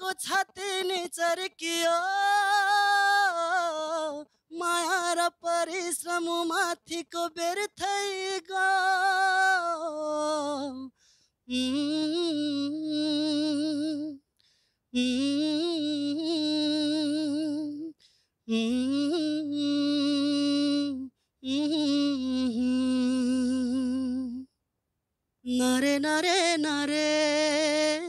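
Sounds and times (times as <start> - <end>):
man singing unaccompanied: 0.0 - 14.2, 15.0 - 24.5, 25.5 - 28.0.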